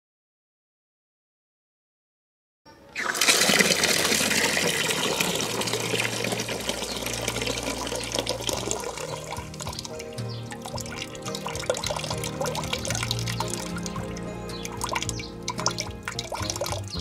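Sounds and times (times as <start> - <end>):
water running from tap and splashing: 3.0 - 17.0.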